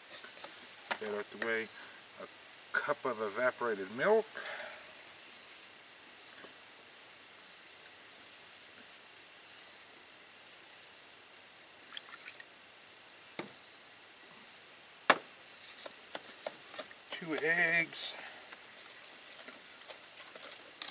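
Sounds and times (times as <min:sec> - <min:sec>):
high insect drone: 0:00.0 - 0:20.9.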